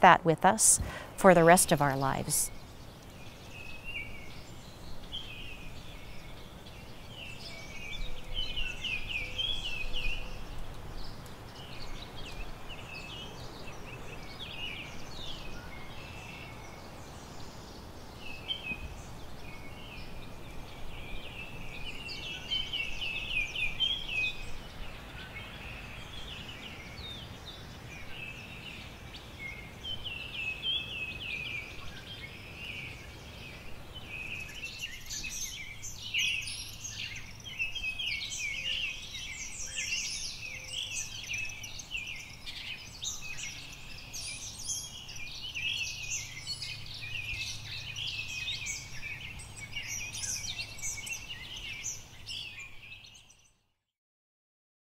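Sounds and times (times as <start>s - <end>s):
faint outdoor hiss: 0.0s - 53.7s
songbirds chirping and trilling: 0.0s - 53.8s.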